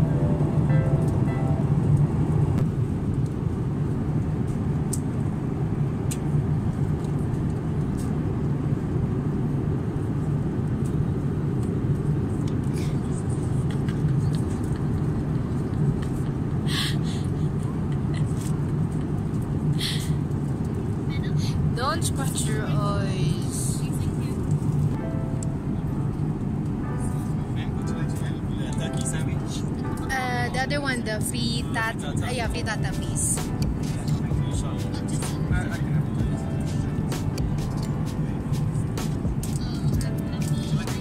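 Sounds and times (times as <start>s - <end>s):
airliner cabin drone: 0.0s - 41.0s.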